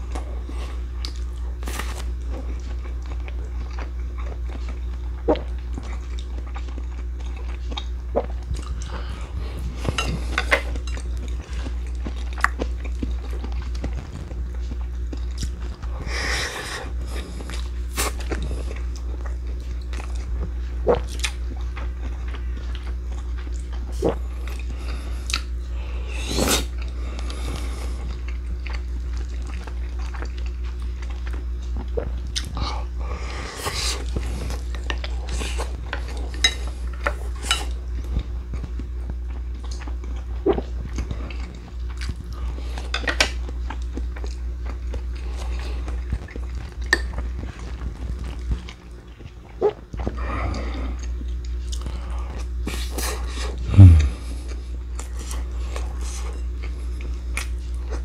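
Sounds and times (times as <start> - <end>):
chewing and biting food: 0.0 - 58.0
electric fan hum: 0.0 - 58.0.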